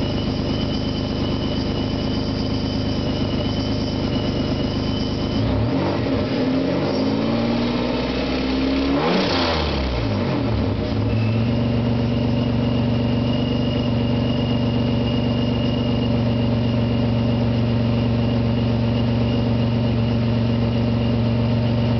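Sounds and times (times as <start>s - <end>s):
thin high whine: 0.0s - 7.3s, 10.9s - 21.9s
car engine revving and idling: 0.0s - 21.9s.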